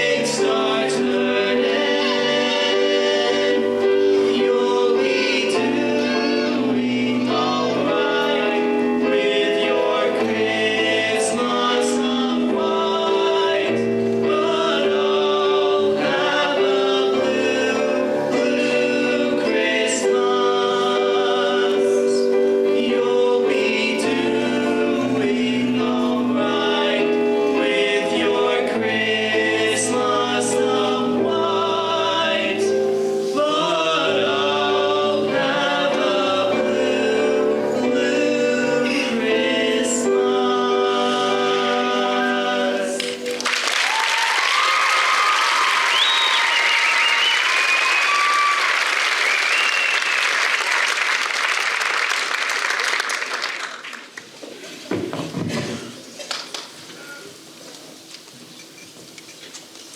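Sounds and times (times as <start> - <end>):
choir singing long notes: 0.0 - 50.8.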